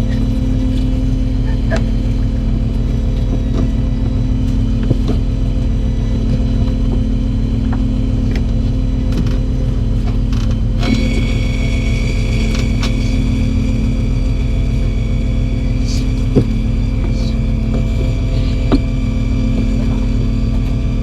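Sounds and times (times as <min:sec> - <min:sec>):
boat engine droning: 0:00.0 - 0:21.0
high steady whine: 0:00.0 - 0:21.0.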